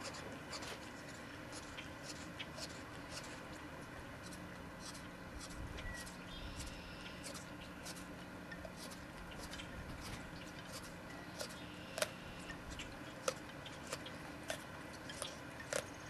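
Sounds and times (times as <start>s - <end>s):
dog gnawing chew toy: 0.0s - 15.9s.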